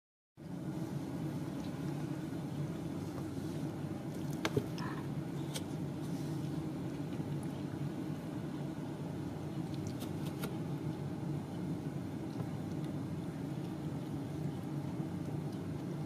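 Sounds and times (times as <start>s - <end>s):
low hum: 0.4s - 16.0s.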